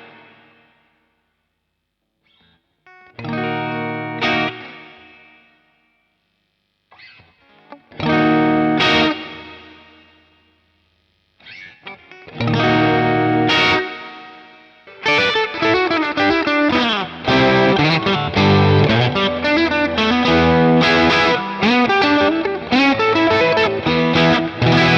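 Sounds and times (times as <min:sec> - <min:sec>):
overdriven electric guitar: 0:00.0 - 0:01.0, 0:02.2 - 0:06.0, 0:06.9 - 0:24.9.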